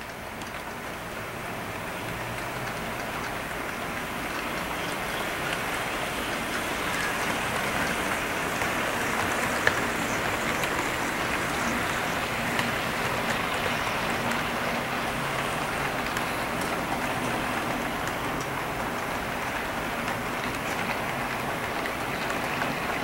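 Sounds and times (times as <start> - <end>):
model train wheels whirring: 0.0 - 23.0.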